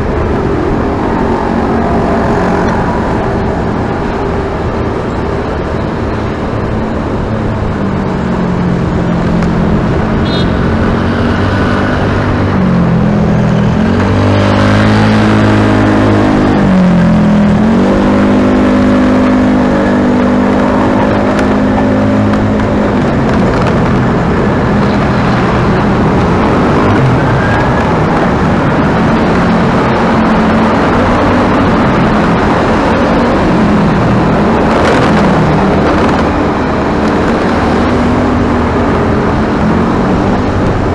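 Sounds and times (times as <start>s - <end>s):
road and wind noise: 0.0s - 40.9s
vehicle engine running: 0.0s - 40.9s.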